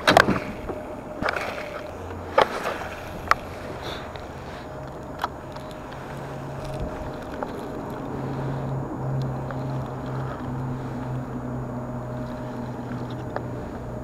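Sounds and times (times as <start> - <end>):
faint steady hum: 0.0 - 14.0
fishing rod and reel clicks: 0.0 - 14.0.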